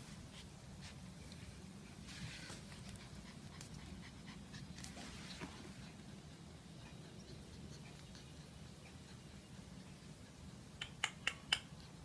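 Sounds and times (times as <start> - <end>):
puppy panting: 0.0 - 12.0.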